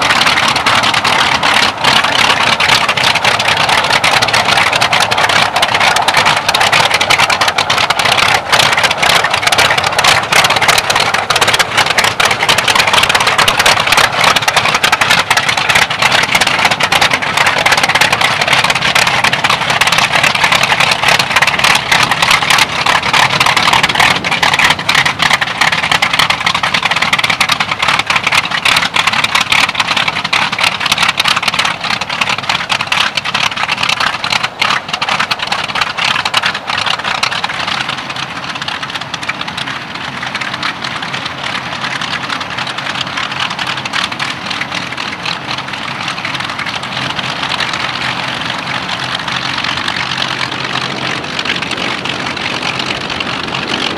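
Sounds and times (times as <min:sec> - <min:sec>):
aircraft propeller engines running: 0:00.0 - 0:53.9.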